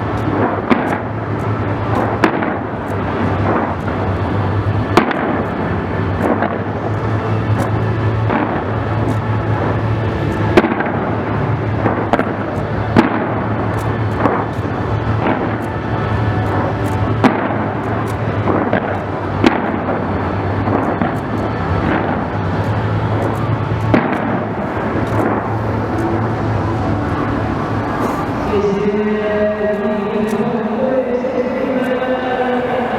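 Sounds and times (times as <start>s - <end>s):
fireworks bangs and crackles: 0.0s - 28.5s.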